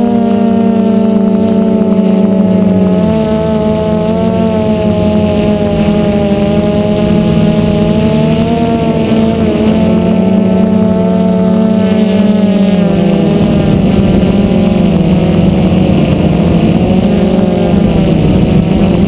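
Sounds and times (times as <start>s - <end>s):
quadcopter motors buzzing: 0.0s - 19.0s.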